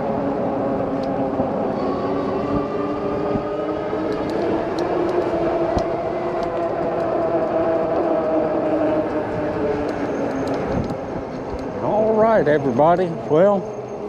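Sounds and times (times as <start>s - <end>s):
bike rolling on road: 0.0s - 14.0s
wind noise: 0.0s - 14.0s.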